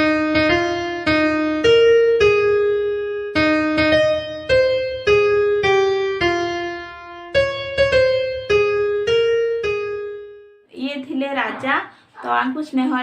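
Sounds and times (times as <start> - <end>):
slow piano melody: 0.0 - 10.7.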